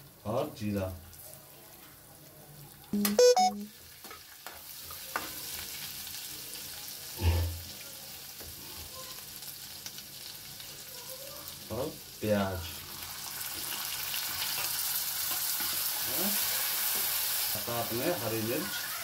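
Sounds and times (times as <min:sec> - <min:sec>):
spices sizzling in hot oil: 0:00.0 - 0:02.9, 0:03.7 - 0:19.0.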